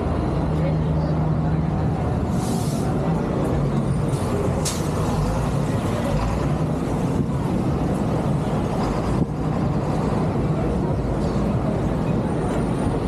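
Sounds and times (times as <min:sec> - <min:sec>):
bus passing close: 0:00.0 - 0:13.0
city street traffic: 0:00.0 - 0:13.0.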